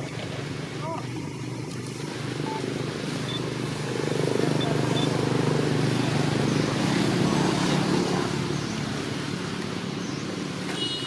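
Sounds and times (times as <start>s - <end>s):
motor engine running: 0.0s - 9.6s.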